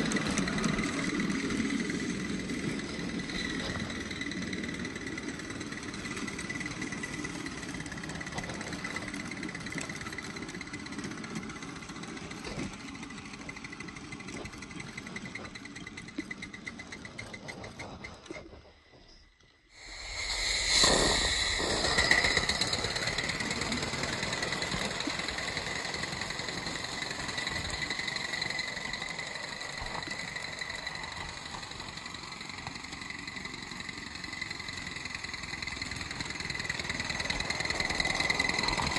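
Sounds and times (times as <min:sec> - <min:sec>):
steam hissing: 0:00.0 - 0:12.8, 0:19.7 - 0:38.9
steam locomotive exhaust chuffing: 0:00.0 - 0:38.9.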